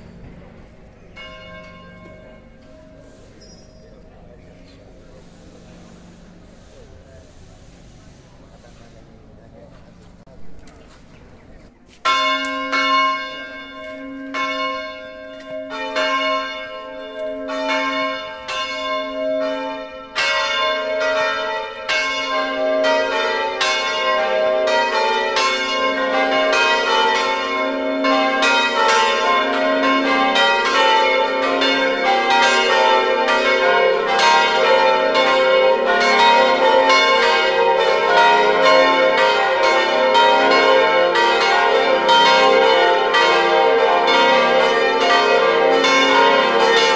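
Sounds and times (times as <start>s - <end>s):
deeper bell: 0.0s - 6.6s, 12.1s - 46.9s
church bells ringing a full peal: 0.0s - 8.7s, 11.9s - 46.9s.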